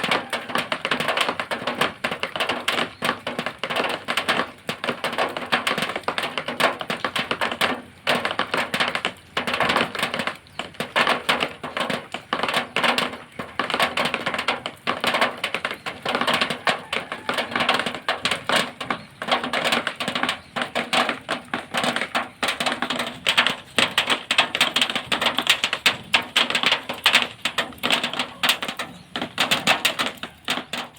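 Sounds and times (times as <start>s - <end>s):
rain on metal sheeting: 0.0s - 30.9s.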